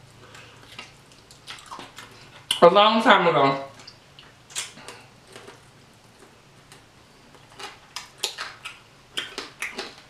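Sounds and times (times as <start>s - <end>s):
person chewing food: 0.2s - 2.6s, 3.8s - 10.0s.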